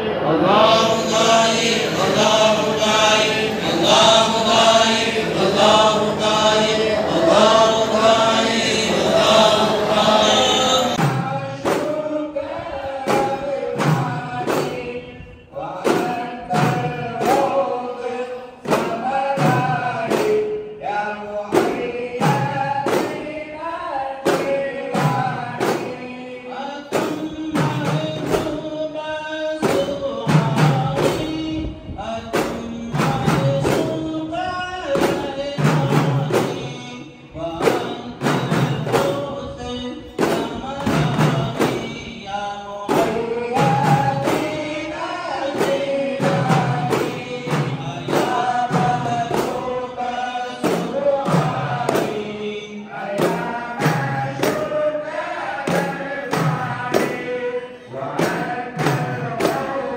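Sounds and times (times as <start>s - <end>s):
men chanting in unison: 0.0s - 59.9s
men singing devotional song: 0.0s - 59.9s
frame drums beating: 0.5s - 15.0s, 15.6s - 59.9s.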